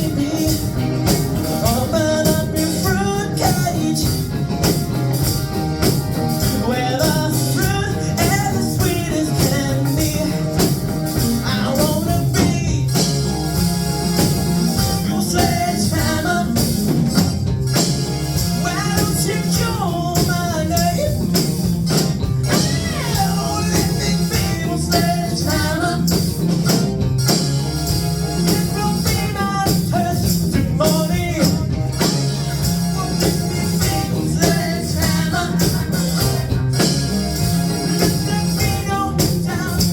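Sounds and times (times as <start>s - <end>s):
song with vocals and band: 0.0s - 39.9s.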